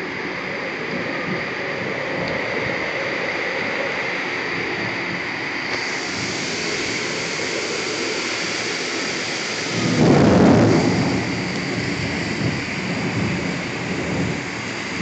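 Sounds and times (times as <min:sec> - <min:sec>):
thunder rolling: 0:00.0 - 0:15.0
torrential rain pouring: 0:00.0 - 0:15.0.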